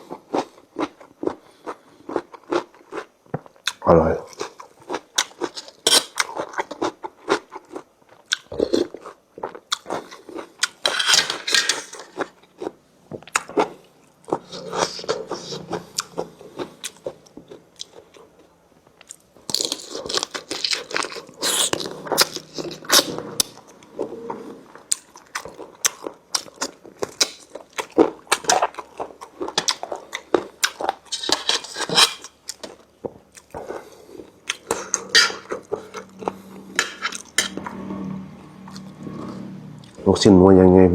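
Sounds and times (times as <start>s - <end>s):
person chewing crunchy food: 0.0s - 37.6s.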